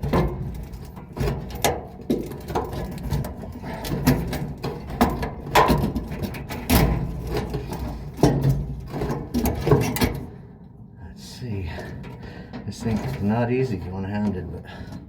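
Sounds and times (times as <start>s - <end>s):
knocks and clatter of dryer parts: 0.0s - 10.8s, 11.6s - 15.0s.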